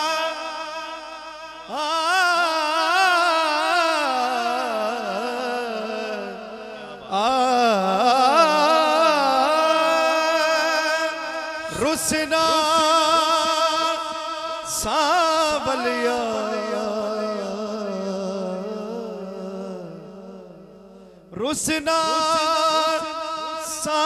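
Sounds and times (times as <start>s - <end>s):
man singing with vibrato: 0.0s - 24.0s.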